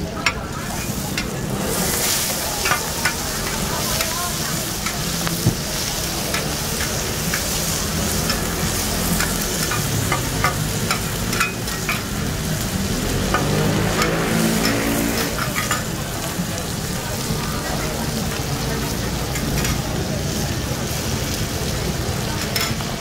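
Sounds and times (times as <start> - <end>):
oil sizzling on griddle: 0.0 - 23.0.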